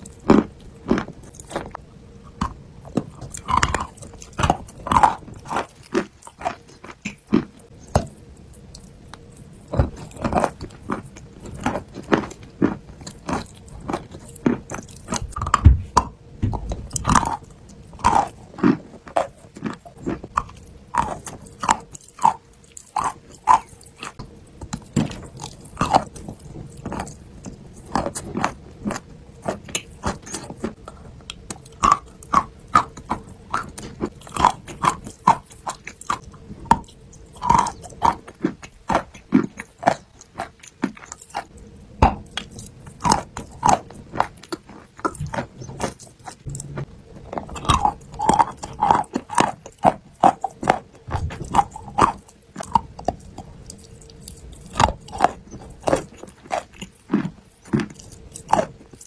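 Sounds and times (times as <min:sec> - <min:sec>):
chewing crunchy chalk: 0:00.0 - 0:59.0.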